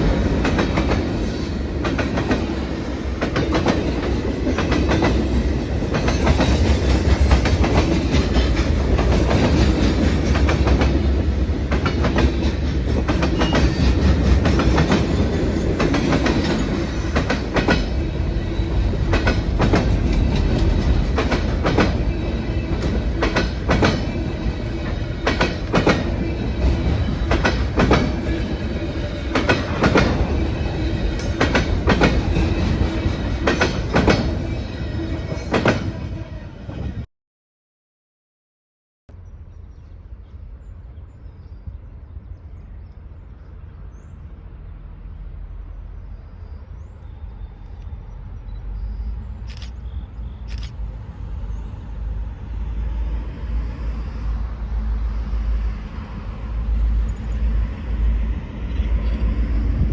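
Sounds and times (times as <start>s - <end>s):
train rumbling on rails: 0.0s - 37.1s, 39.1s - 59.9s.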